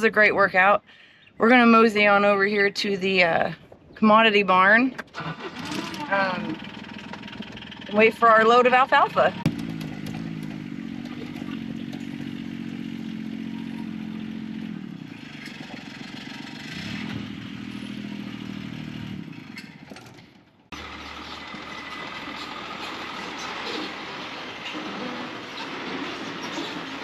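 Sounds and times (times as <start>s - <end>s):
vehicle engine running: 4.6s - 27.0s
rattling and clatter: 4.9s - 27.0s
rumbling rattling run: 4.9s - 27.0s.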